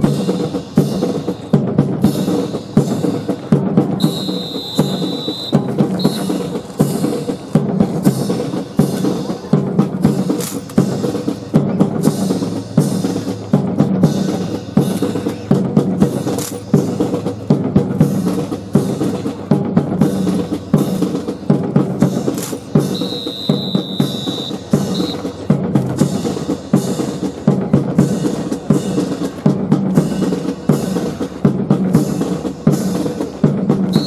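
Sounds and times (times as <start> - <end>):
marching band playing a march: 0.0 - 34.0
snare and bass drums beat: 0.0 - 34.0.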